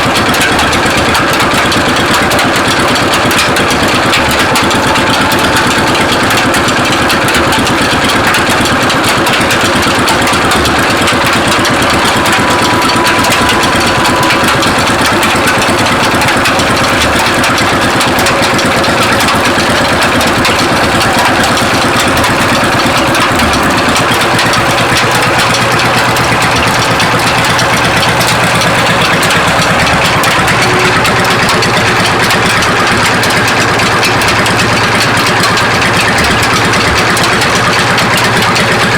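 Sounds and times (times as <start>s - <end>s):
stationary diesel engine running: 0.0s - 38.9s.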